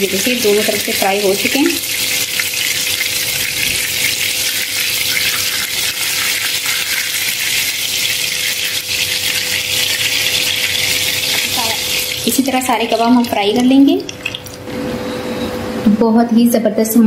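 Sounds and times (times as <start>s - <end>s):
meat sizzling in hot oil: 0.0s - 14.7s.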